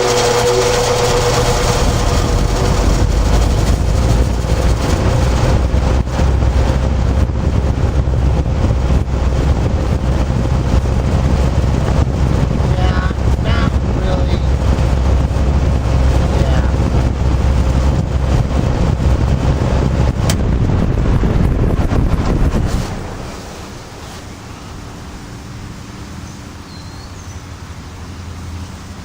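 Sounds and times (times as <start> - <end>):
box fan rushing air: 0.0 - 29.0.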